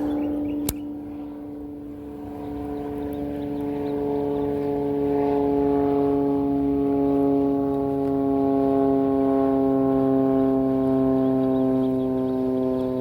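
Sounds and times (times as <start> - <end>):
aeroplane droning overhead: 0.0 - 13.0.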